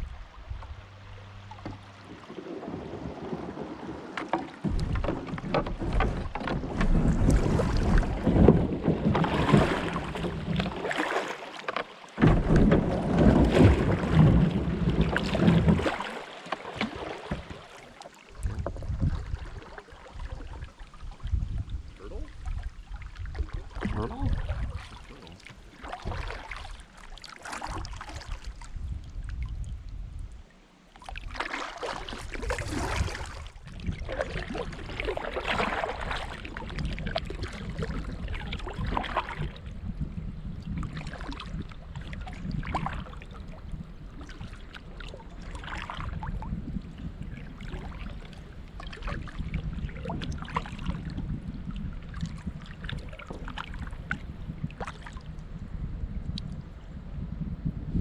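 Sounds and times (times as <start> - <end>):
paddle splashing in water: 0.0 - 29.4, 30.6 - 55.4.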